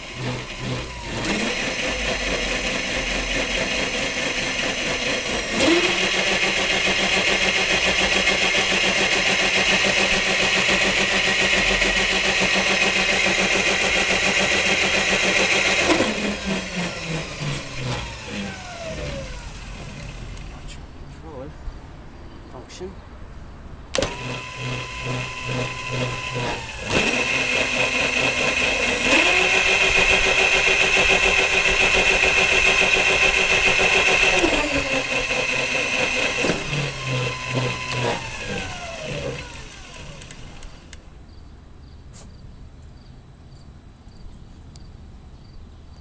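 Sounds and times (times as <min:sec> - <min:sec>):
electric motor whine: 0:00.0 - 0:20.7, 0:24.0 - 0:41.0.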